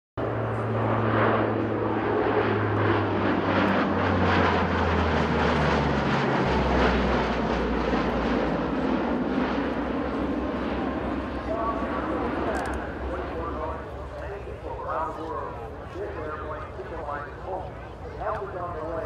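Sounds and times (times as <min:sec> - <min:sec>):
turboprop aircraft droning: 0:00.2 - 0:19.0.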